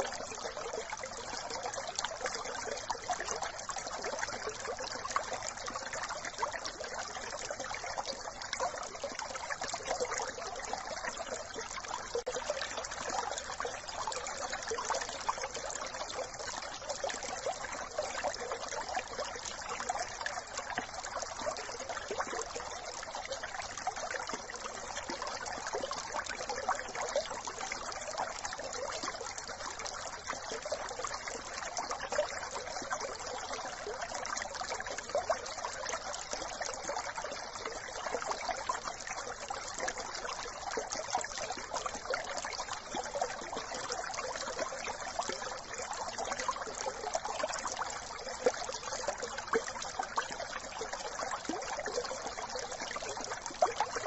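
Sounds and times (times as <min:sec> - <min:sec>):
brook water babbling over stones: 0:00.0 - 0:54.0.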